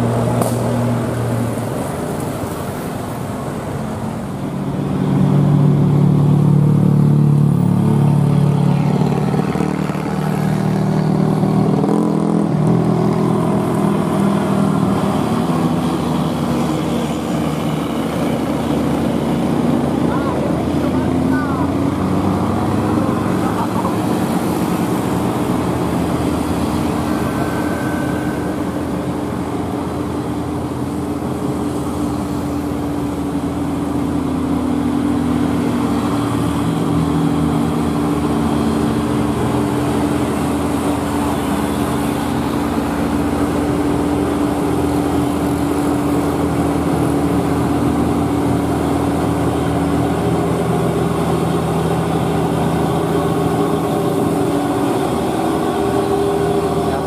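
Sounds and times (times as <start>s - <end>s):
cars and motorcycles passing: 0.0s - 57.0s
truck diesel engine droning: 0.0s - 57.0s.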